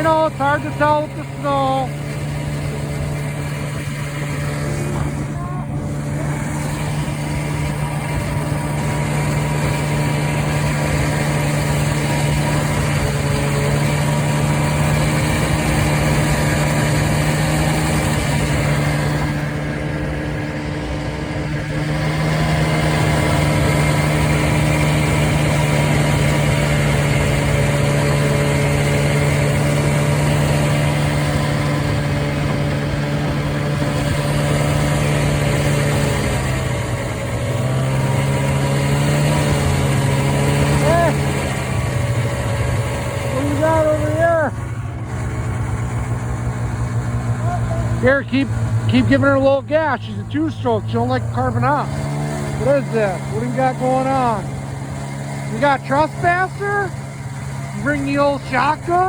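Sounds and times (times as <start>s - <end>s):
snowmobile two-stroke engine running: 0.0s - 59.0s.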